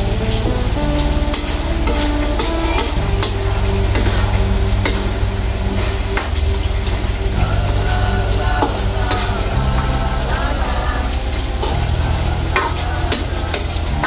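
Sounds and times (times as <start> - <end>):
soft lute music: 0.0 - 14.0.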